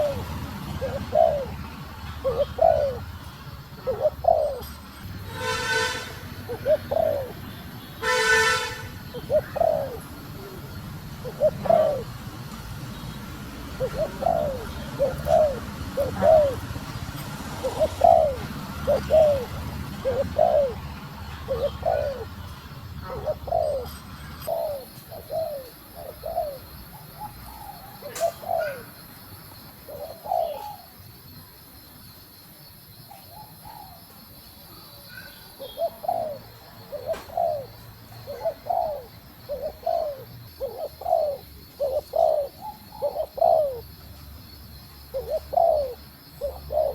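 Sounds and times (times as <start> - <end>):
dove cooing: 0.0 - 12.5, 13.5 - 29.0, 29.8 - 30.9, 35.1 - 44.1, 45.0 - 46.9.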